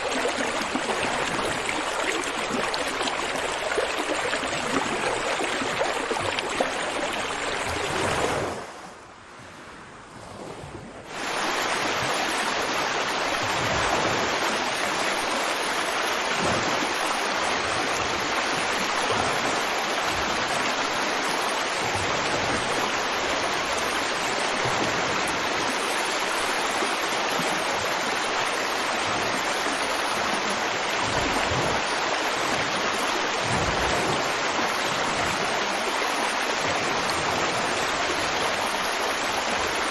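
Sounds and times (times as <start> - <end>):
river water flowing over rocks: 0.0 - 8.6, 11.1 - 39.9.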